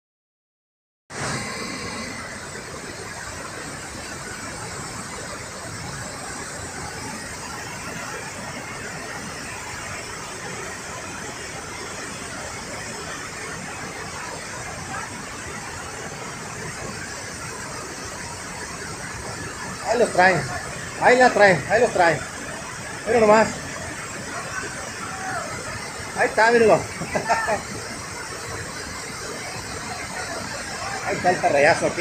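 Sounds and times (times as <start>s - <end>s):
water rushing over falls and rapids: 1.1s - 32.0s.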